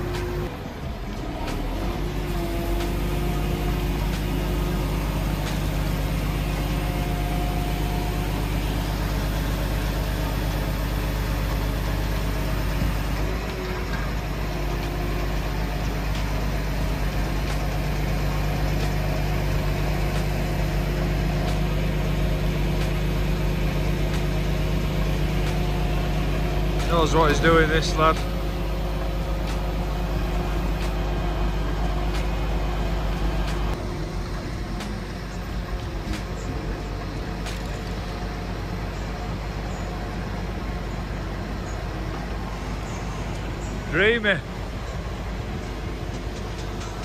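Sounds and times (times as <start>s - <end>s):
truck diesel engine droning: 0.0s - 47.0s.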